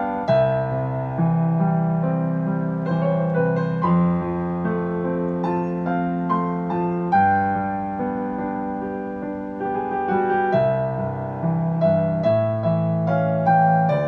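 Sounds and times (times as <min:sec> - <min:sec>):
solo piano slow melody: 0:00.0 - 0:14.0.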